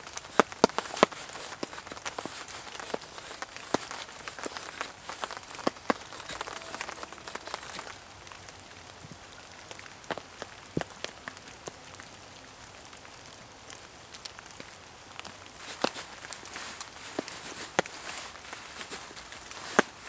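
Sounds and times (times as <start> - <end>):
raindrops tapping: 0.0 - 11.8, 13.7 - 20.0
rain falling: 0.0 - 20.0.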